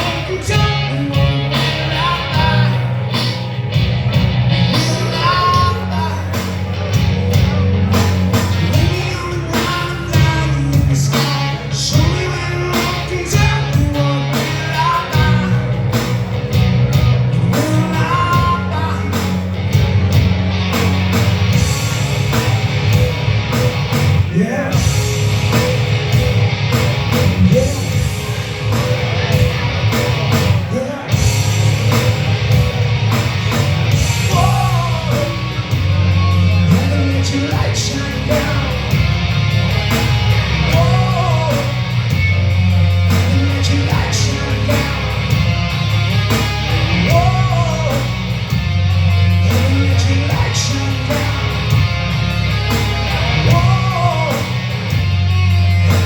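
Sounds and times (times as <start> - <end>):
electric guitar: 0.0 - 56.0
heavy bass: 0.0 - 56.0
live rock band playing: 0.0 - 56.0.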